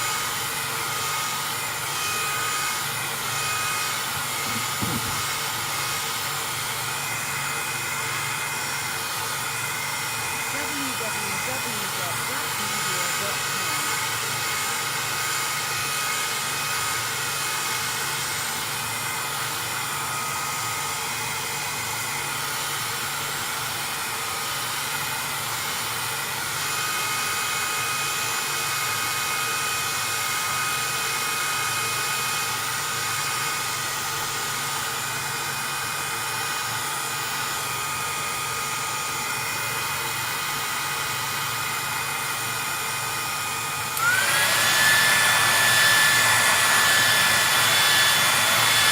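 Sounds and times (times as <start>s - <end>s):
heat gun blowing: 0.0s - 48.9s.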